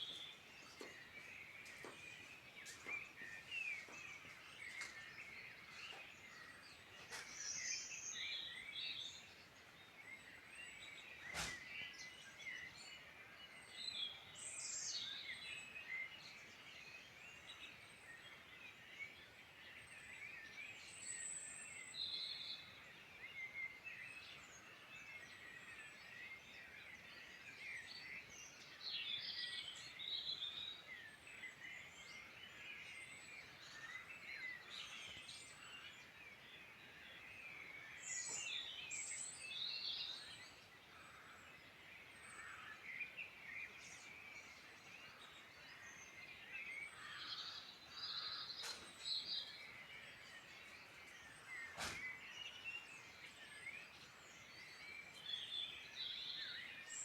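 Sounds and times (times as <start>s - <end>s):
wild birds chirping and trilling: 0.0s - 57.0s.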